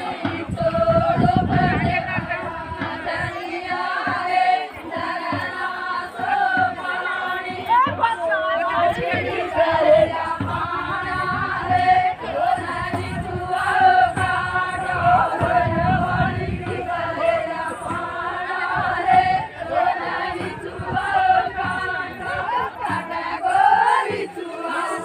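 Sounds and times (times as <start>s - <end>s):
crowd noise: 0.0s - 25.0s
women singing folk song in chorus: 0.0s - 25.0s.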